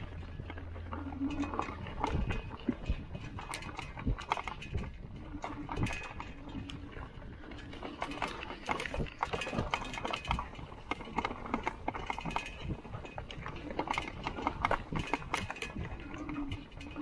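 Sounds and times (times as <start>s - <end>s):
bike knocks and rattles: 0.0s - 17.0s.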